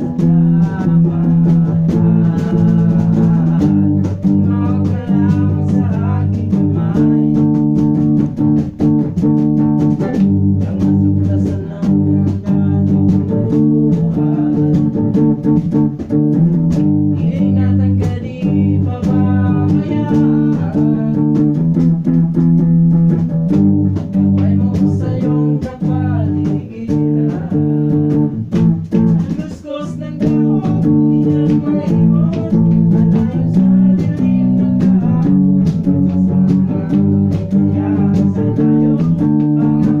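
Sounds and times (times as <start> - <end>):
person singing: 0.0 - 22.4, 23.1 - 40.0
bass guitar line: 0.0 - 40.0
guitar: 0.0 - 40.0.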